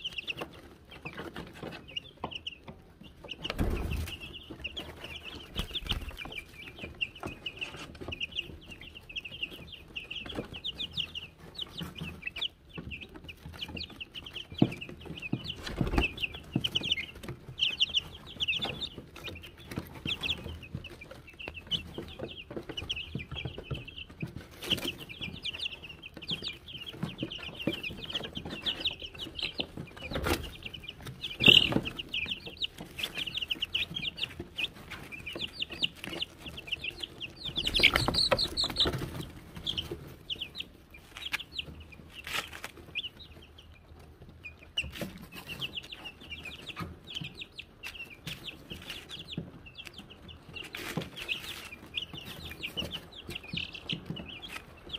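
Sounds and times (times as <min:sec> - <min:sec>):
chicks peeping: 0:00.0 - 0:54.9.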